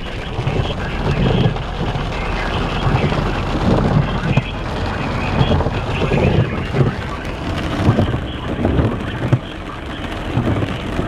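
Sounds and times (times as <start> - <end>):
vehicle rumble: 0.0 - 11.0
wind buffeting microphone: 0.0 - 11.0.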